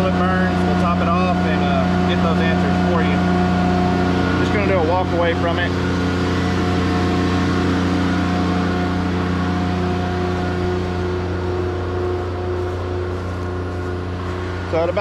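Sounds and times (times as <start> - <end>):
diesel generator humming: 0.0 - 15.0.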